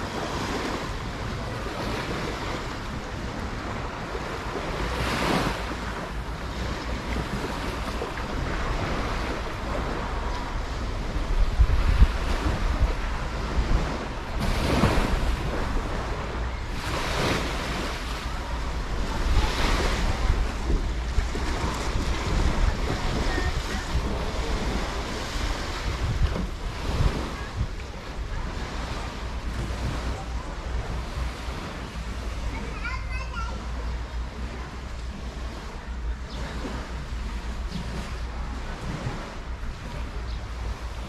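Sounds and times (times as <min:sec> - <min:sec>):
small sea waves washing in: 0:00.0 - 0:41.0
wind buffeting microphone: 0:00.0 - 0:41.0.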